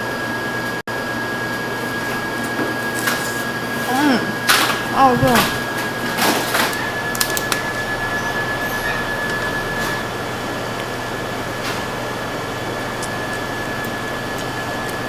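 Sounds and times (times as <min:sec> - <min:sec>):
high steady whine: 0:00.0 - 0:15.0
machine whirring: 0:00.0 - 0:15.0.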